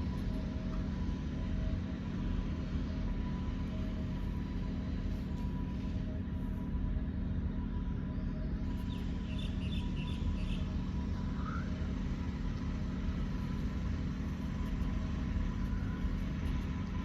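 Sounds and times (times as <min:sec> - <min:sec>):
faint motor whine: 0:00.0 - 0:17.0
motor running low rumble: 0:00.0 - 0:17.0.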